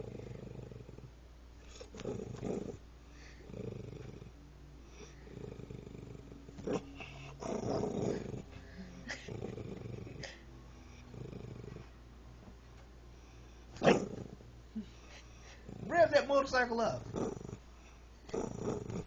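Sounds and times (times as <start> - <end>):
dog growling: 0.0 - 12.0, 13.8 - 16.3, 16.9 - 17.6, 18.2 - 19.0.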